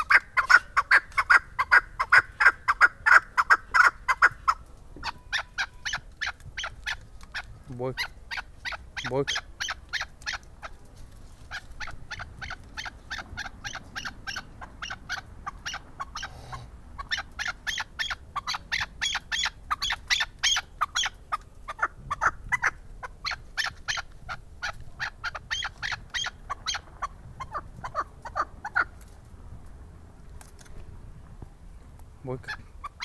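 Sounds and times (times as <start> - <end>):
partridge calling: 0.0 - 10.8, 11.4 - 29.0, 32.3 - 33.0.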